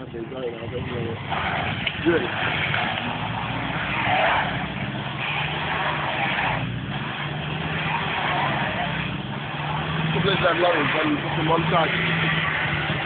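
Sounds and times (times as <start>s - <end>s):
lorry engine running under load: 0.0s - 13.0s
wheel spinning on snow: 0.0s - 13.0s.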